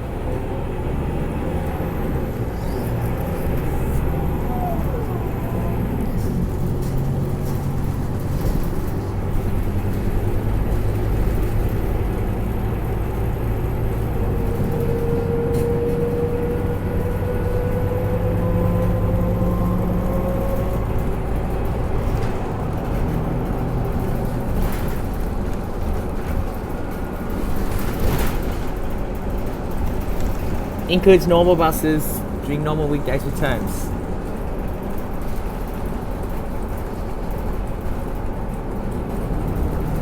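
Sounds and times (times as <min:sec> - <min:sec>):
bus diesel engine running: 0:00.0 - 0:40.0
road noise: 0:00.0 - 0:40.0.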